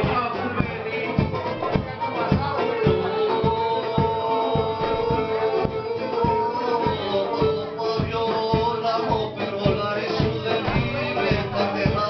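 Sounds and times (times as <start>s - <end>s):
held melody line: 0.0s - 12.0s
plucked string instruments: 0.0s - 12.0s.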